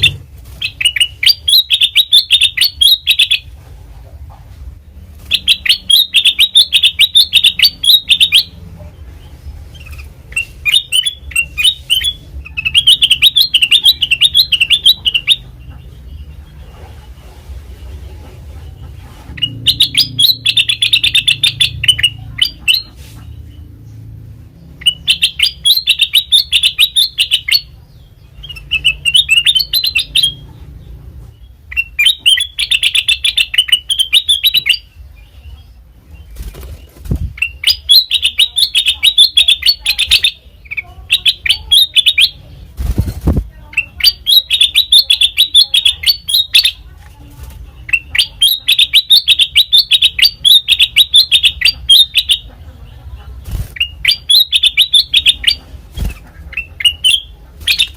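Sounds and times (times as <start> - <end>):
bulbul chattering chirps: 0.0 - 3.5, 5.2 - 47.0, 47.7 - 57.9.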